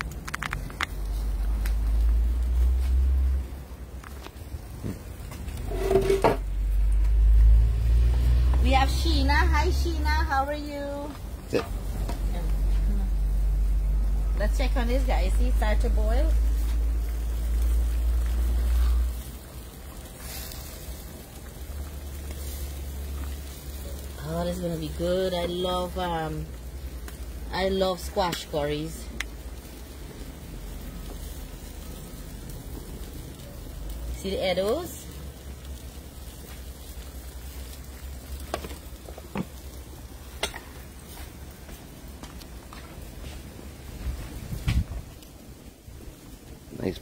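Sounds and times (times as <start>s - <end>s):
low rumble: 0.0s - 42.1s
curry sizzling and boiling in pan: 0.0s - 47.0s.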